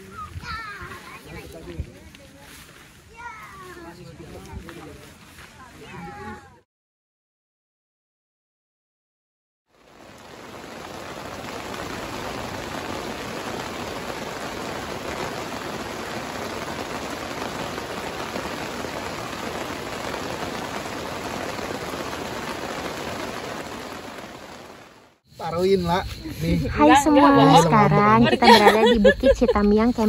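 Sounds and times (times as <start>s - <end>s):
dense rain on a tent: 0.0s - 6.5s, 9.7s - 28.9s.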